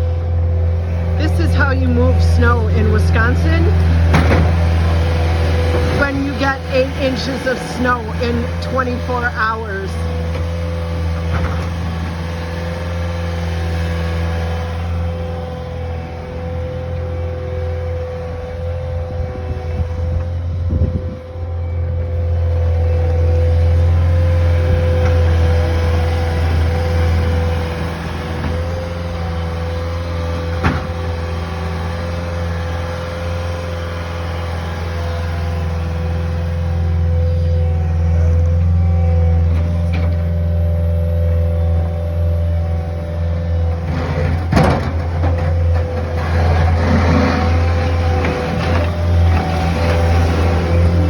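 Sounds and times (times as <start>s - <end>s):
snow machine engine droning: 0.0s - 51.0s.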